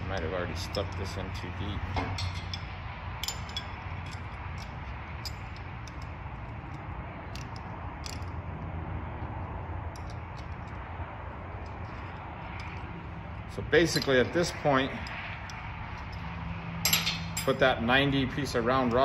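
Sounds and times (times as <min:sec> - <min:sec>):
low background hum: 0:00.0 - 0:19.0
metal parts clicking: 0:00.1 - 0:08.5, 0:09.8 - 0:17.6.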